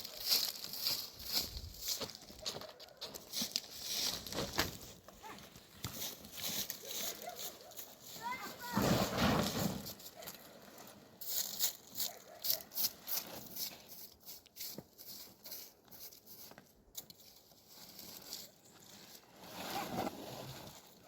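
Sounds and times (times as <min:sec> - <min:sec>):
rustling scraping strokes: 0:00.0 - 0:02.4, 0:03.2 - 0:05.0, 0:05.7 - 0:21.0.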